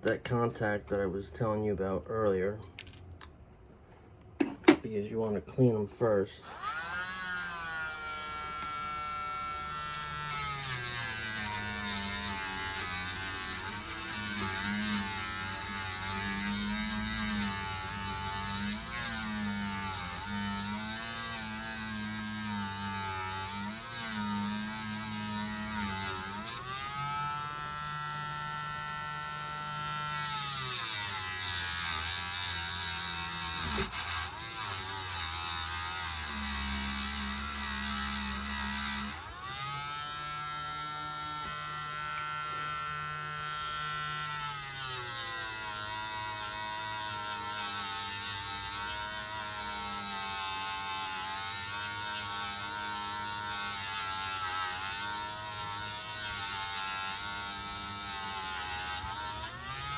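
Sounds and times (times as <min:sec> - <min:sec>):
small electric motor tool buzzing: 0:06.4 - 0:59.9.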